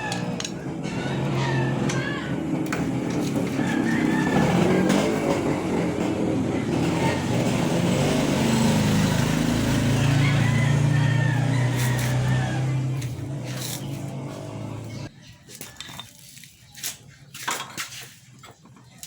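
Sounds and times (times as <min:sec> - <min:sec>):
engine droning: 0:00.0 - 0:15.3.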